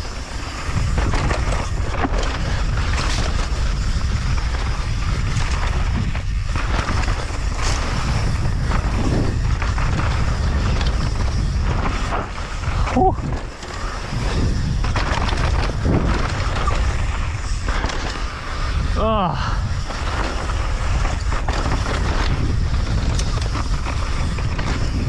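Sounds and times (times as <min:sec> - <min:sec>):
bike rattling over bumps: 0:00.0 - 0:25.0
wind noise on microphone: 0:00.0 - 0:25.0
tyres crunching over dirt: 0:00.3 - 0:25.0.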